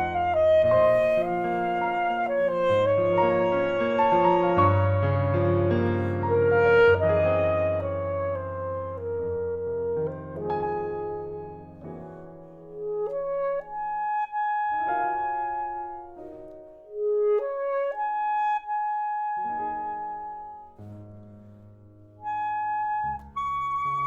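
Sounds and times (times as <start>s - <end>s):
alto saxophone melody: 0.0s - 24.0s
piano accompaniment: 0.0s - 24.0s.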